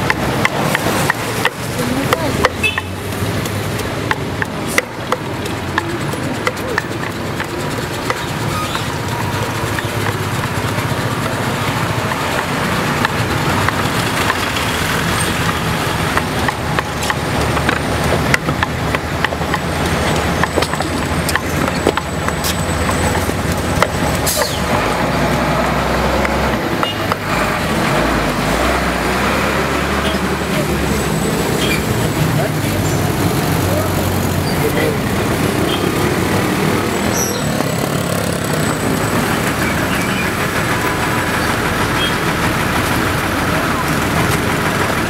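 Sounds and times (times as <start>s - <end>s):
crowd voices: 0.0s - 45.0s
road traffic rumble: 0.0s - 45.0s.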